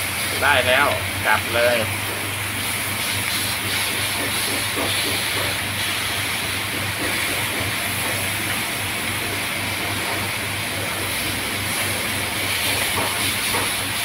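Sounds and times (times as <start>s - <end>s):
meat sizzling on a grill pan: 0.1s - 14.0s.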